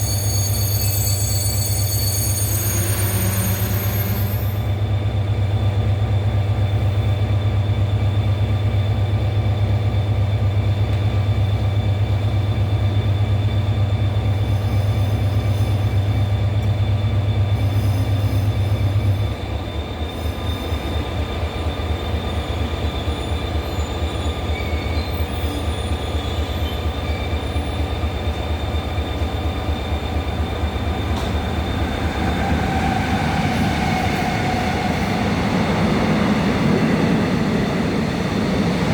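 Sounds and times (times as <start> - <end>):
electric train humming: 0.0 - 38.9.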